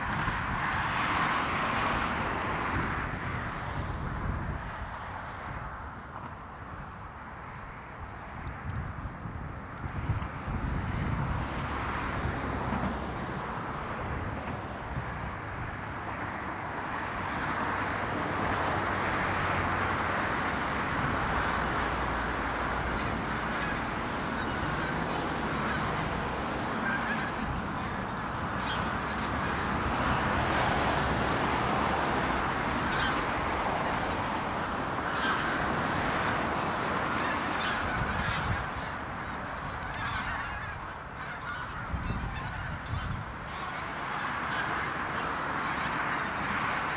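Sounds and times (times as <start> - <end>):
waterbirds honking: 7.7 - 46.9.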